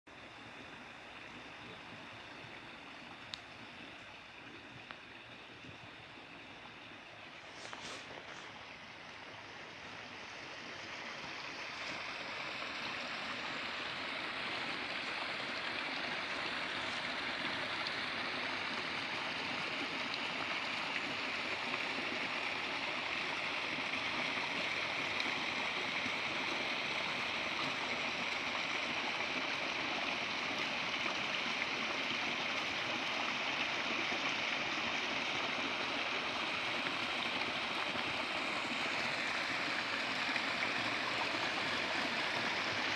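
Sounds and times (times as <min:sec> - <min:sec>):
brook water splashing: 0:00.1 - 0:42.9.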